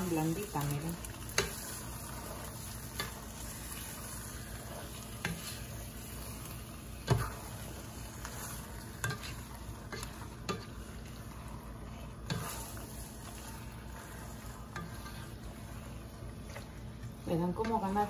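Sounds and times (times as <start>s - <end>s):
sauce simmering sizzle: 0.0s - 18.0s
tongs stirring spaghetti: 0.0s - 18.0s.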